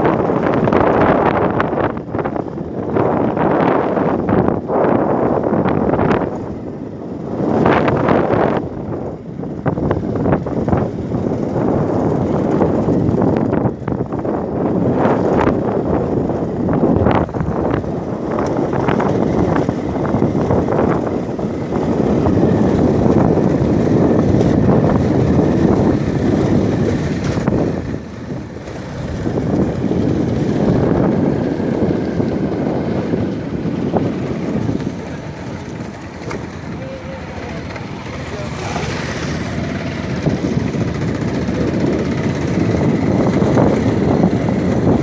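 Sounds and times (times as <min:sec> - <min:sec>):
motorcycle engine running: 0:00.0 - 0:45.0
wind rushing over microphone: 0:00.0 - 0:45.0.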